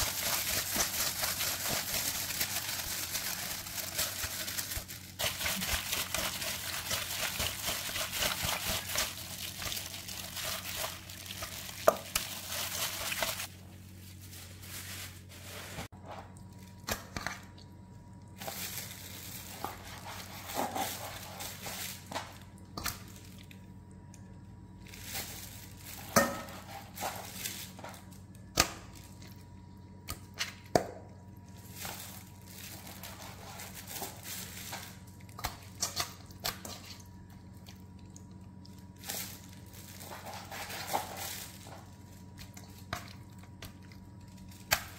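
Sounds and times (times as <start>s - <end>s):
dense crackly rustle: 0.0s - 16.8s, 18.2s - 23.8s, 24.8s - 28.4s, 31.4s - 35.9s, 36.8s - 44.7s.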